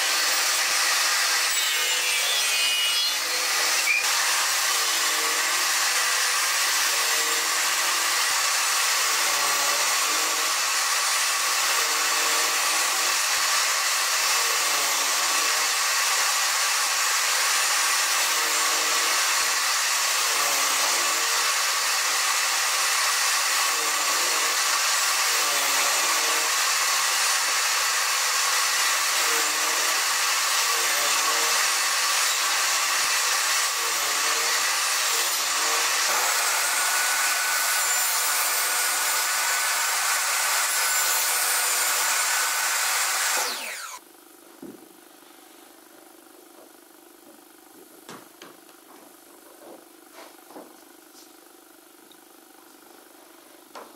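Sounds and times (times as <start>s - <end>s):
table saw cutting wood: 0.0s - 44.0s.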